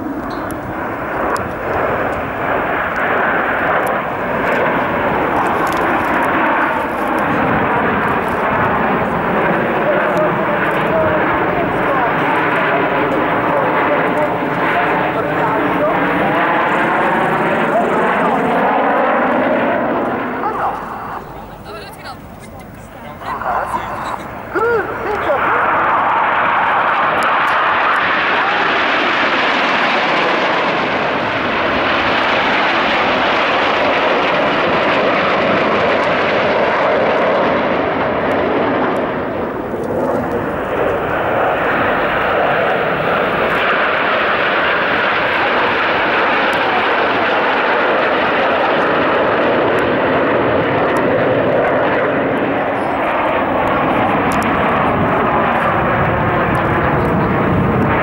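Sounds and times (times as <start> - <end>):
jets flying over: 0.0 - 58.0.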